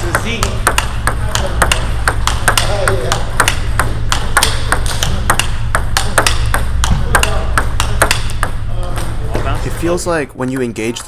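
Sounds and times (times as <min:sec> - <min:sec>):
ball bouncing on table: 0:00.0 - 0:09.6
ball clicking off bats: 0:00.0 - 0:09.7.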